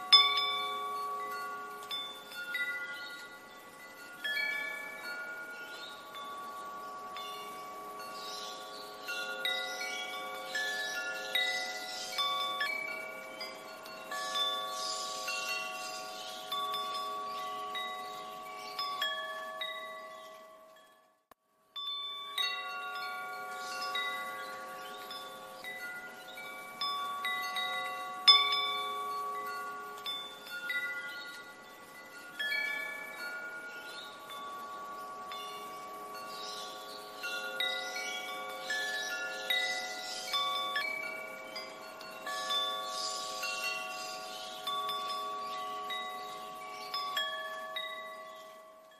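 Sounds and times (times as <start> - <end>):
wind chimes ringing: 0.0 - 48.9.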